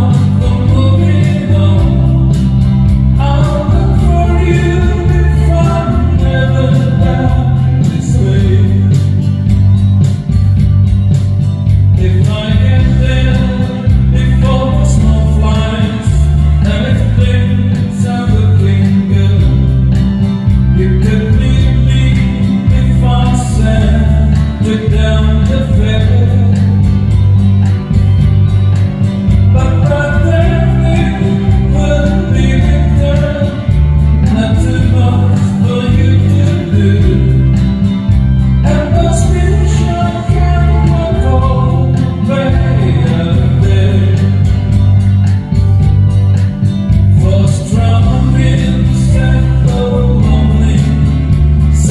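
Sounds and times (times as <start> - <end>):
person singing: 0.0 - 9.2, 12.0 - 20.0, 20.7 - 26.9, 29.5 - 37.9, 38.6 - 44.8, 47.1 - 51.9
guitar: 0.0 - 51.9
steady bass beat: 0.0 - 51.9.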